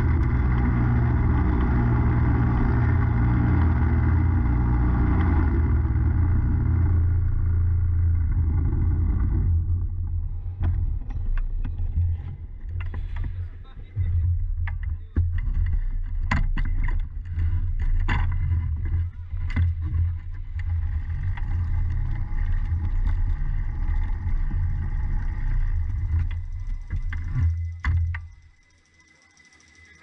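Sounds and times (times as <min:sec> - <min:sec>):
go-kart engine idling: 0:00.0 - 0:30.0.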